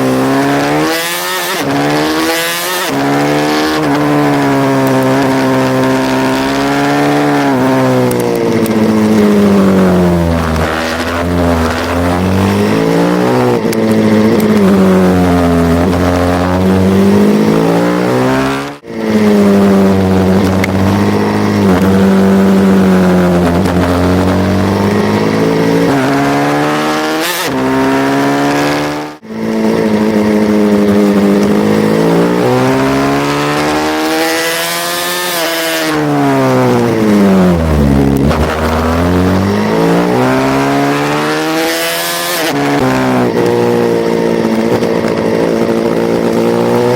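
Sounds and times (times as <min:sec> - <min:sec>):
pit bike engine revving: 0:00.0 - 0:46.9.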